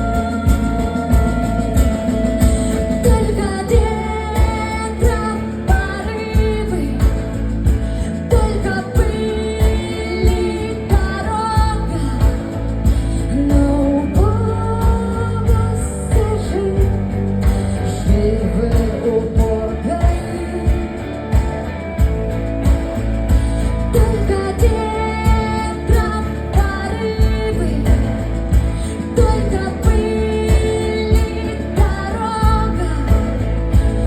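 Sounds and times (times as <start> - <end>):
drums keeping a beat: 0.0 - 34.0
live rock band playing: 0.0 - 34.0.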